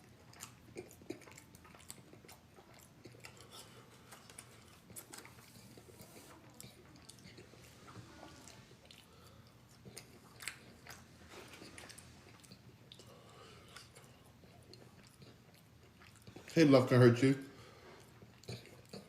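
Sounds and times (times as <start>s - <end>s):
person chewing: 0.0s - 16.6s, 17.6s - 19.0s.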